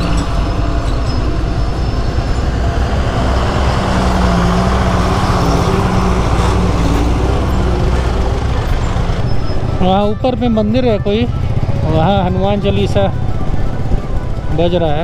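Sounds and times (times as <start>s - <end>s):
truck and motorcycle engines: 0.0s - 15.0s.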